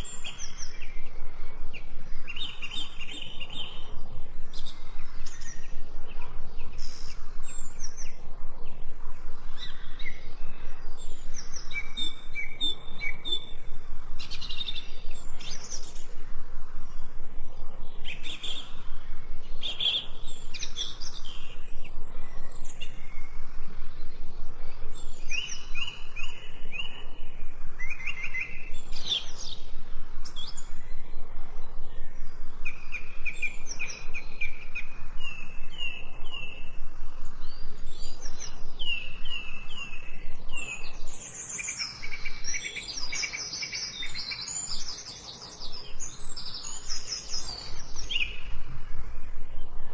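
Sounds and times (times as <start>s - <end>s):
songbirds chirping and trilling: 0.0s - 49.9s.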